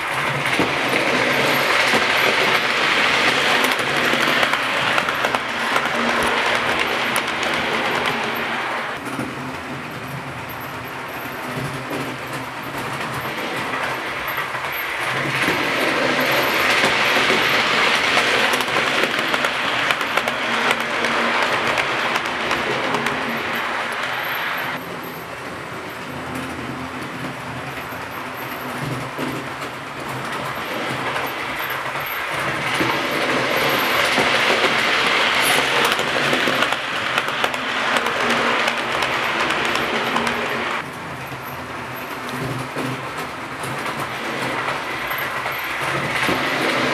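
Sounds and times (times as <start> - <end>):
model train whirring rumble: 0.0 - 46.9
wheels clicking over rail joints: 0.0 - 46.9.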